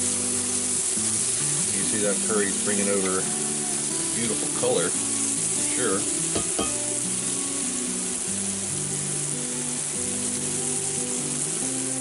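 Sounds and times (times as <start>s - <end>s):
music of held low notes: 0.0s - 12.0s
vegetables sizzling in skillet: 0.0s - 12.0s.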